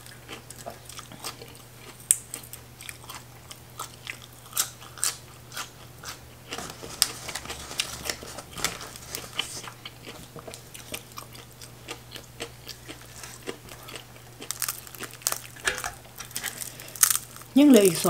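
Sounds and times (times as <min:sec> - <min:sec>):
chewing crunchy greens: 0:00.0 - 0:18.0
crispy fried fish crackling: 0:00.0 - 0:18.0.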